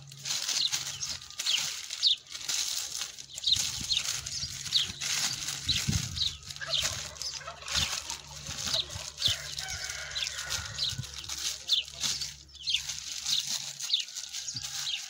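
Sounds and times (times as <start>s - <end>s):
birds chirping: 0.0s - 15.0s
plastic bag crinkling: 0.0s - 15.0s.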